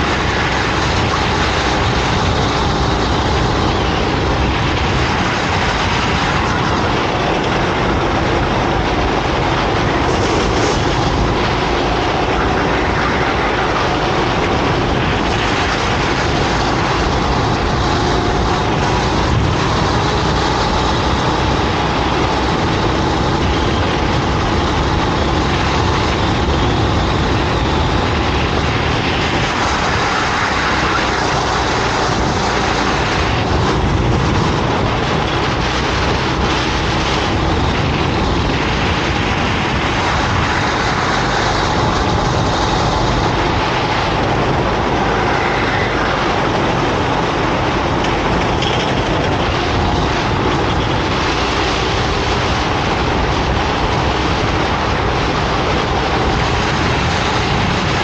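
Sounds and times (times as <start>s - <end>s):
go-kart engine running hard: 0.0s - 58.0s.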